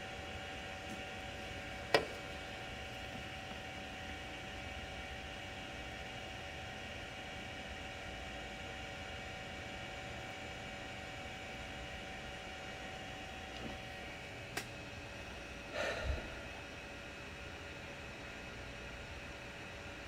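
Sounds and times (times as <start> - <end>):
cooling fans running: 0.0 - 20.0.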